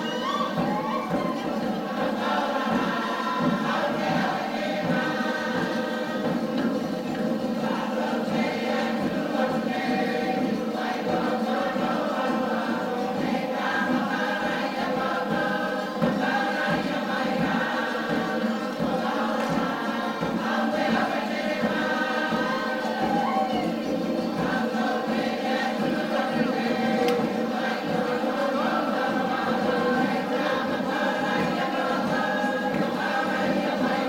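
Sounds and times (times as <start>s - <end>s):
group singing in chorus: 0.0s - 34.0s.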